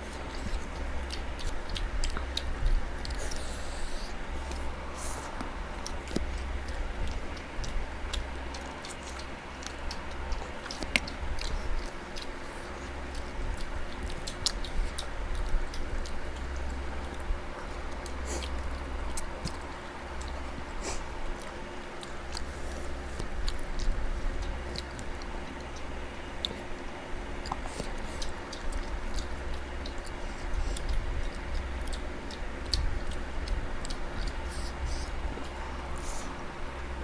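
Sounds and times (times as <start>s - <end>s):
chewing and biting food: 0.0s - 37.0s
low steady hum: 0.0s - 37.0s.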